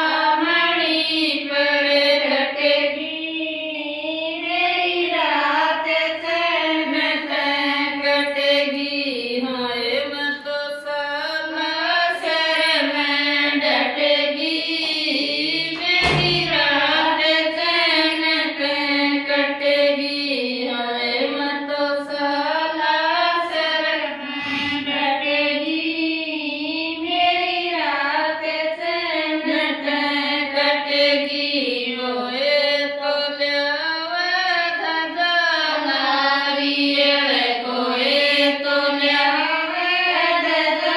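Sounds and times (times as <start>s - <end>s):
women singing in unison: 0.0s - 40.9s.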